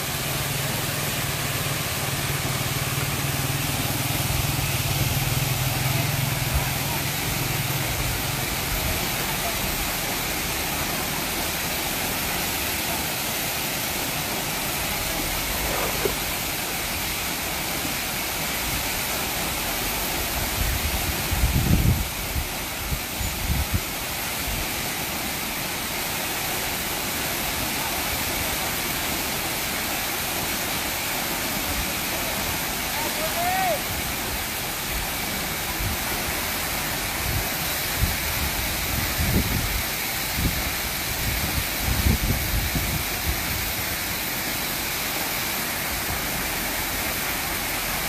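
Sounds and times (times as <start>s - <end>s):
waterfall rushing onto rocks: 0.0s - 48.0s.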